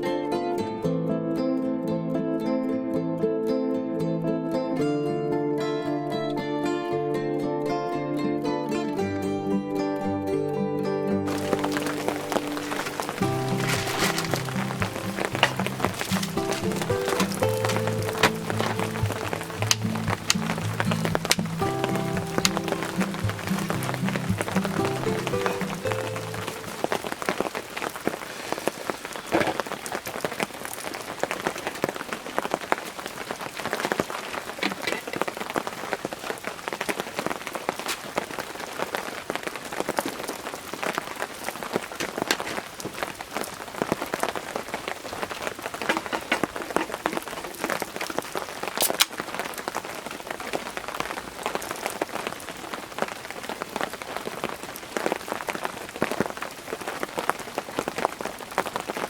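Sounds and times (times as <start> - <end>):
steady rain falling: 11.2 - 59.0
raindrops ticking on a surface: 11.3 - 59.0.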